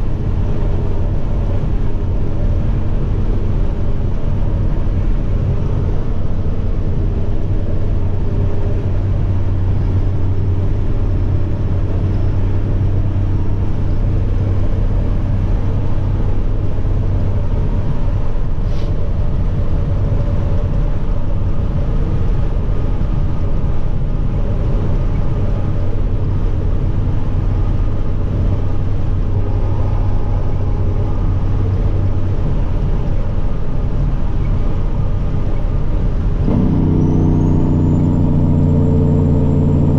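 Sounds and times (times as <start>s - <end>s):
diesel truck engine droning: 0.0s - 39.9s
faint turbo whine: 0.0s - 39.9s.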